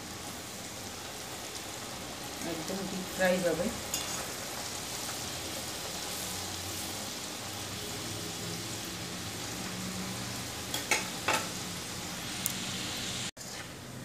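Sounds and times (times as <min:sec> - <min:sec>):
deep-frying sizzle in oil: 0:00.0 - 0:14.0.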